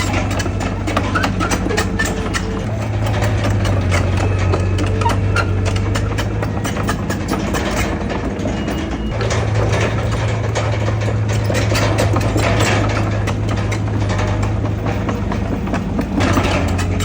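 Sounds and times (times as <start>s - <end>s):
bulldozer diesel engine running: 0.0s - 17.0s
short metallic clicks and knocks: 0.0s - 17.0s.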